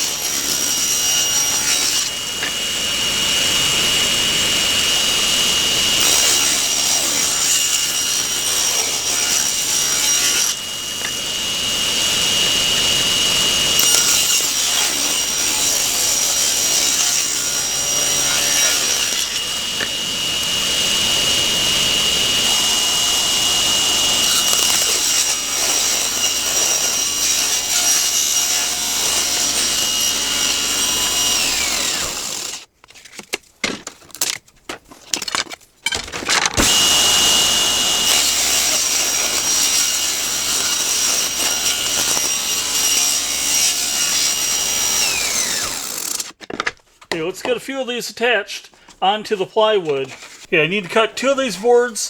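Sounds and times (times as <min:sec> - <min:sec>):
table saw ripping wood: 0:00.0 - 0:47.6, 0:49.0 - 0:52.0.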